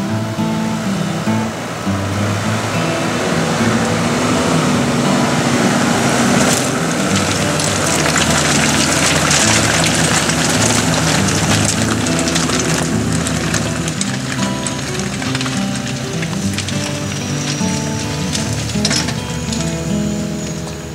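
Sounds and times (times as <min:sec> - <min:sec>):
diesel engine driving past: 0:00.0 - 0:20.9
tyres crunching over rocks: 0:01.1 - 0:20.9.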